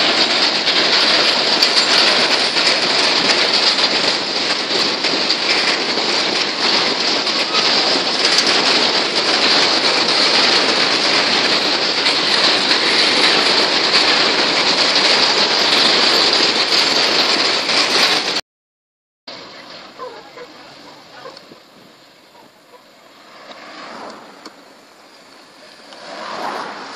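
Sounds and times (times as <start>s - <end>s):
train wheels rushing on rails: 0.0s - 18.4s, 19.3s - 26.9s.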